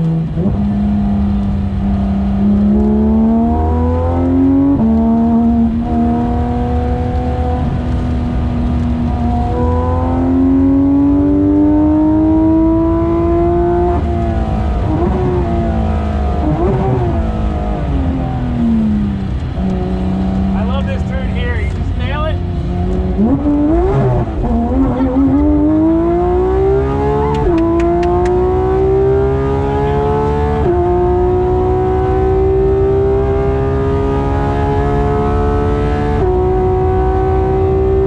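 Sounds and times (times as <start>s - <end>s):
sports car engine revving: 0.0s - 38.0s.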